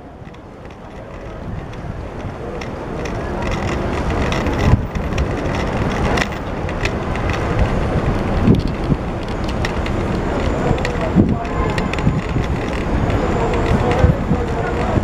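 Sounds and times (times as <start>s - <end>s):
bicycle clicks and rattles: 0.0s - 15.0s
road and traffic rumble: 0.0s - 15.0s.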